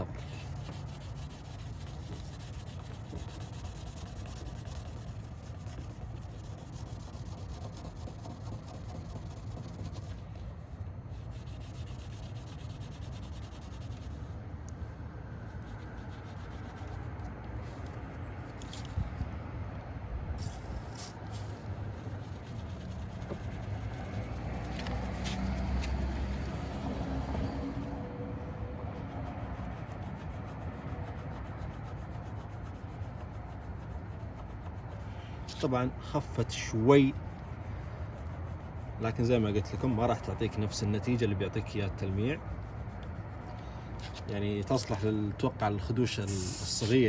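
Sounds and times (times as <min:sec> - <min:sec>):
pad scrubbing car paint: 0:00.0 - 0:19.2, 0:20.4 - 0:47.0.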